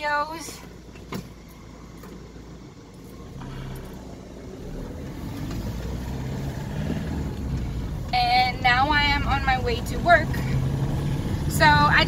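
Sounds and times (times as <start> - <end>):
car road noise rumble: 0.0 - 12.0
low engine hum: 0.0 - 12.0.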